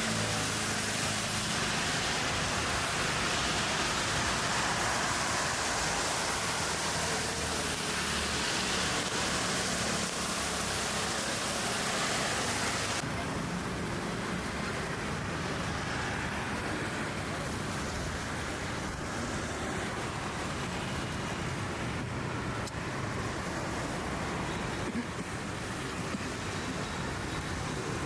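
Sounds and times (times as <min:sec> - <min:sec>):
city traffic rush: 0:00.0 - 0:28.0.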